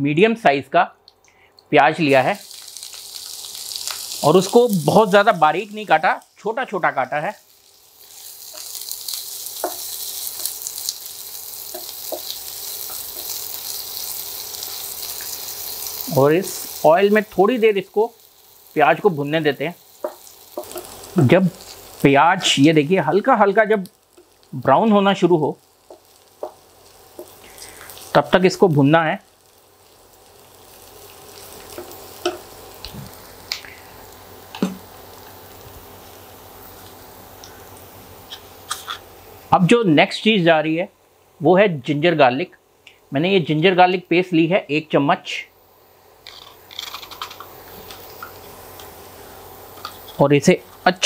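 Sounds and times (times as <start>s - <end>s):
onion sizzling in hot oil: 1.7s - 51.0s.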